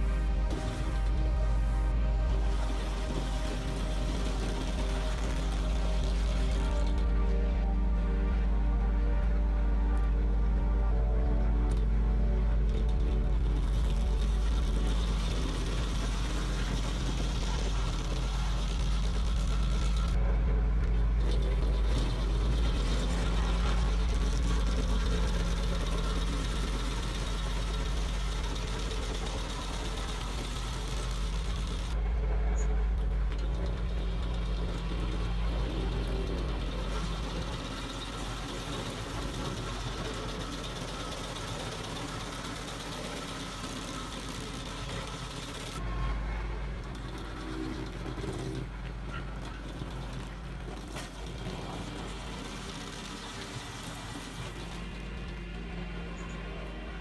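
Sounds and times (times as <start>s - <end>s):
diesel engine humming: 0.0s - 57.0s.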